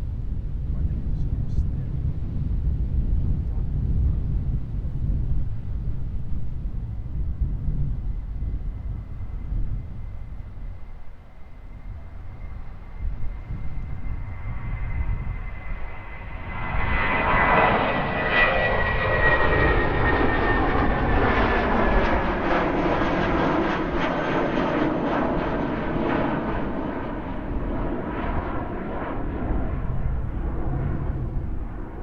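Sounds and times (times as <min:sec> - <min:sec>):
aircraft engines rumbling: 0:00.0 - 0:32.0
jet engine whine: 0:00.0 - 0:32.0.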